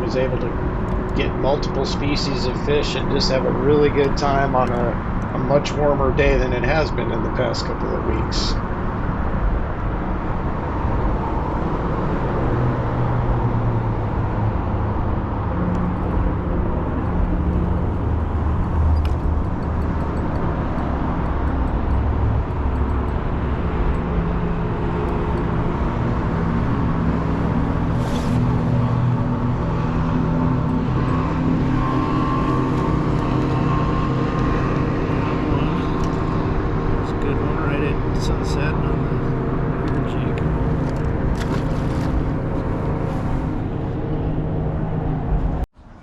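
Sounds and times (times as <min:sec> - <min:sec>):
outboard motor droning: 0:00.0 - 0:45.4.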